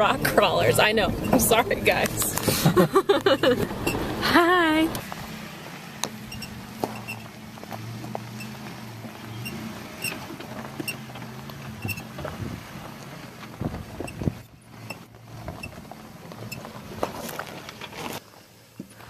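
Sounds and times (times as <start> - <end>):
car engine running slowly: 0.0 - 19.0
stones crunching under tyres: 0.0 - 19.0.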